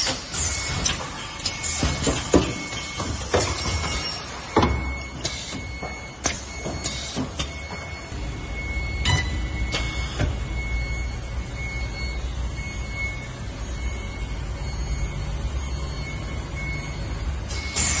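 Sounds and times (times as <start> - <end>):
machinery humming and whining: 0.0 - 18.0.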